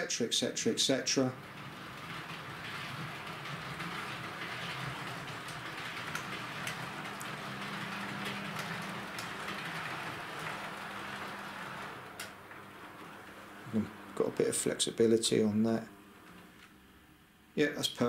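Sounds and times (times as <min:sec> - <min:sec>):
train wheels clicking: 0:00.0 - 0:14.7
model train motor hum and rumble: 0:00.0 - 0:16.7.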